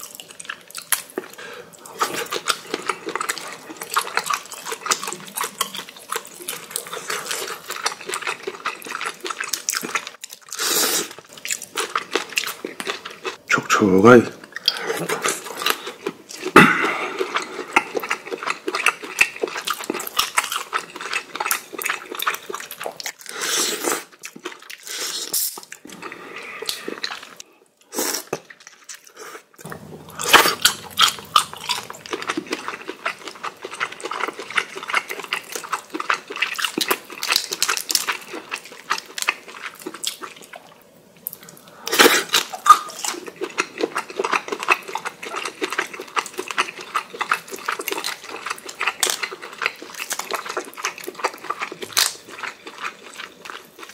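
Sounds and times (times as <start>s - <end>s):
wet chewing and lip-smacking: 0.0s - 13.6s, 14.4s - 23.3s, 28.1s - 53.9s.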